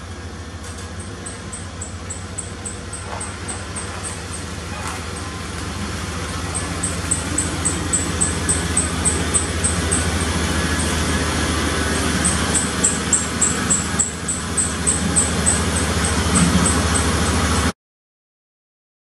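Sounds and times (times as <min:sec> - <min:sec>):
pickup truck engine rumbling: 0:00.0 - 0:17.7.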